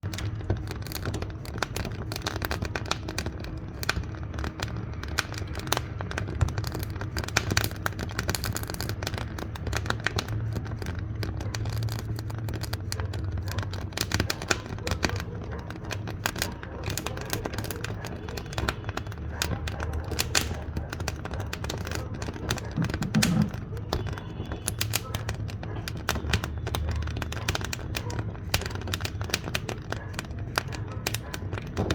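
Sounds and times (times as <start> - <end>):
wood fire crackling and popping: 0.0 - 31.9.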